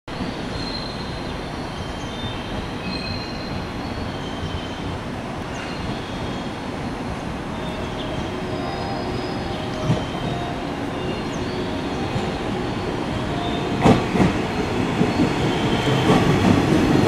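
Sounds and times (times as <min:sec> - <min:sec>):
train wheels rumbling on rails: 0:00.1 - 0:17.0.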